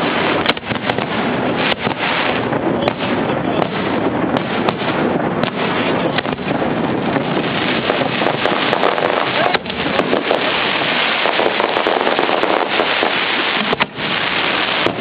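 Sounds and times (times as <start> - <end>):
dense rush of noise: 0.0 - 15.0
fireworks bangs: 0.0 - 15.0.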